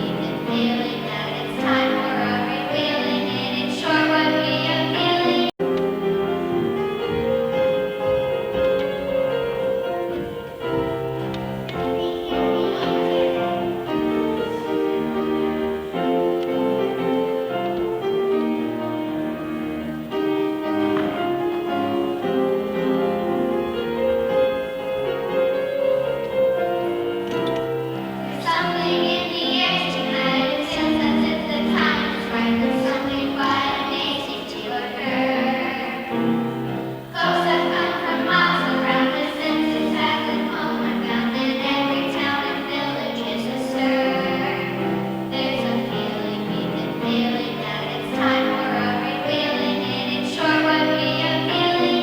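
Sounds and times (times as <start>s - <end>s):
choir singing: 0.0s - 52.0s
instrumental accompaniment: 0.0s - 52.0s.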